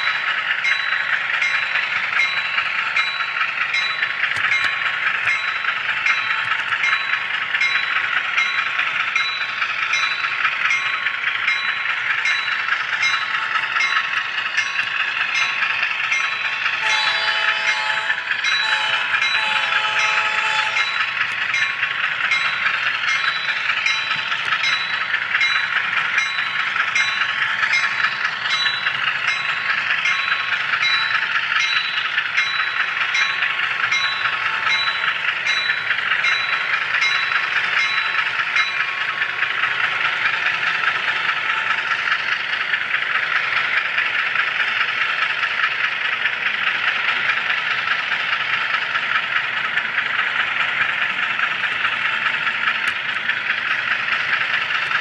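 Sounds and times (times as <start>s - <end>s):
model train wheels and motor hum: 0.0s - 55.0s
regular track clicks: 0.0s - 55.0s.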